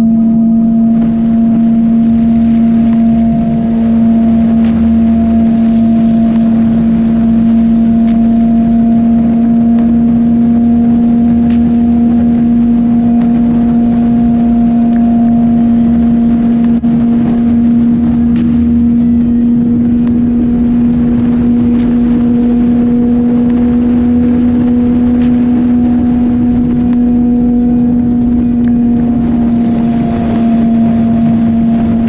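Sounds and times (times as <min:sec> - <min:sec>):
motorcycle engine cruising: 0:00.0 - 0:32.0
wind rumble on microphone: 0:00.0 - 0:32.0.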